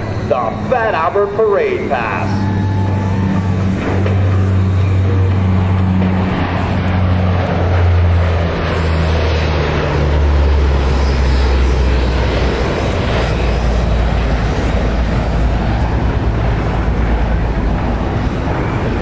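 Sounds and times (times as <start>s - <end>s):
turboprop aircraft droning past: 0.0s - 19.0s.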